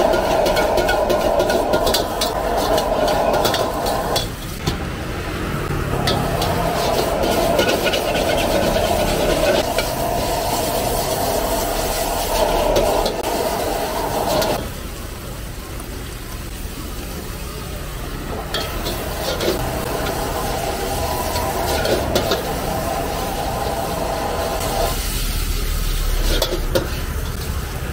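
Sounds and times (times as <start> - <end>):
metal ladle scraping wok: 0.0 - 4.9, 5.7 - 14.6, 18.5 - 27.8
gas burner rushing: 0.0 - 15.2, 17.0 - 27.9
noodles sizzling in wok: 0.0 - 27.9.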